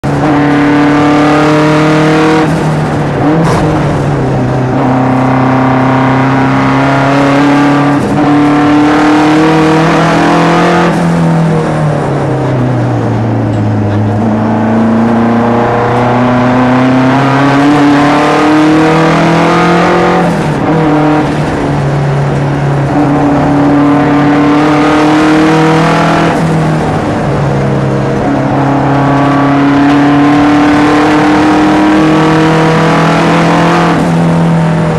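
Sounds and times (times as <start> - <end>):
race car engine revving: 0.0 - 34.9.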